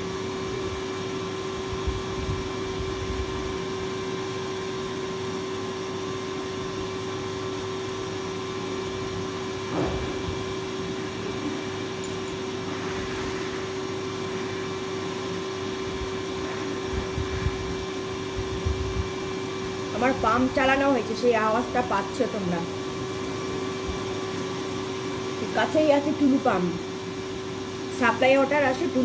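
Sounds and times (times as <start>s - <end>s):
water pump humming: 0.0s - 29.0s.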